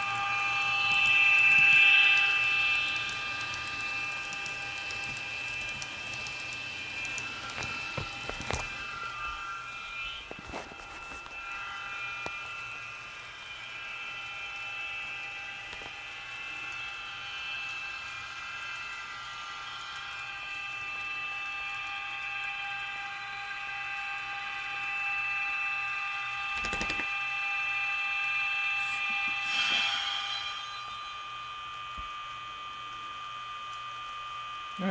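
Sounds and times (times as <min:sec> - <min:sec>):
model locomotive electric whine: 0:00.0 - 0:34.9.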